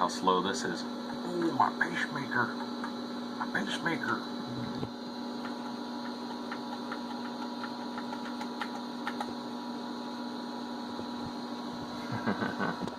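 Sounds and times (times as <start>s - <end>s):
computer electrical hum: 0.0s - 12.9s.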